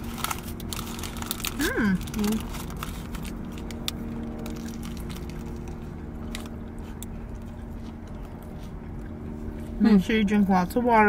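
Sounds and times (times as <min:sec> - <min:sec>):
person chewing: 0:00.0 - 0:09.8
low hum inside a car: 0:00.0 - 0:11.0.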